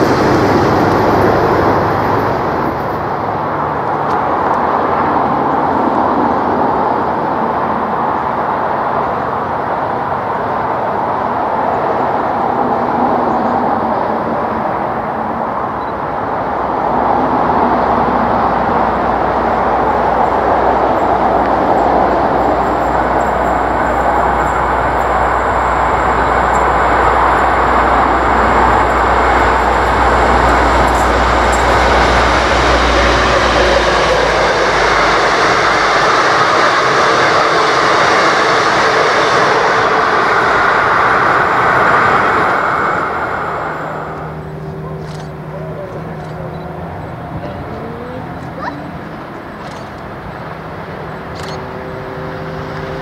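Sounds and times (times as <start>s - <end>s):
diesel locomotive engine rumble: 0.0s - 53.0s
train rushing on rails: 0.0s - 53.0s.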